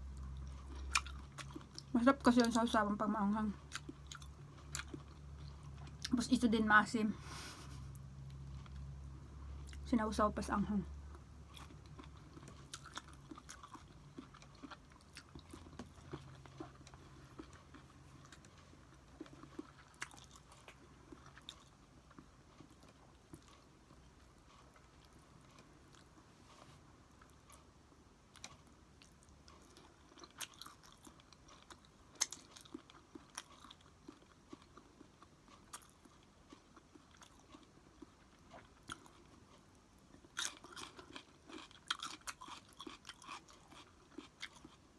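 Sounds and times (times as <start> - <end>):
person chewing food: 0.0 - 2.7, 3.4 - 6.2, 7.2 - 9.8, 11.0 - 44.9.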